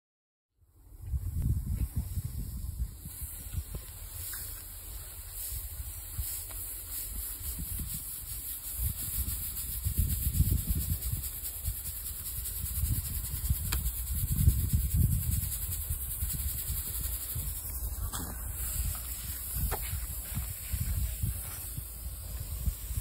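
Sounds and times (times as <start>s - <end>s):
low rumble gusts: 0.7s - 23.0s
model jet motor hissing: 3.4s - 23.0s.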